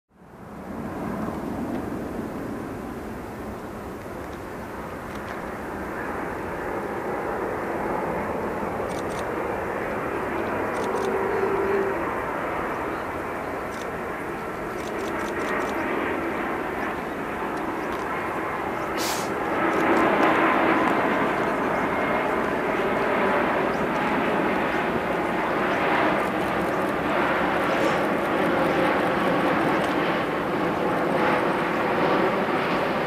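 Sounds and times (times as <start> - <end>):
jet airliner rushing noise: 0.5 - 33.0.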